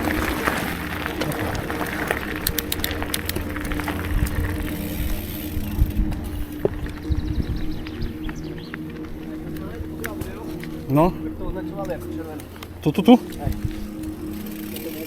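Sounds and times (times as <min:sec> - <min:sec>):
low rumble of wind and rolling: 0:00.0 - 0:15.0
steady hum: 0:00.0 - 0:15.0.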